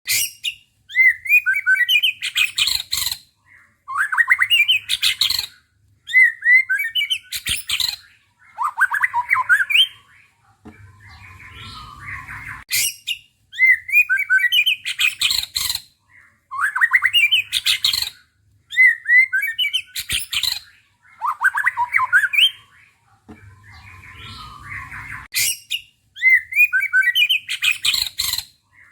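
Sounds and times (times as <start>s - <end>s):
songbird chattering song: 0.1s - 28.9s.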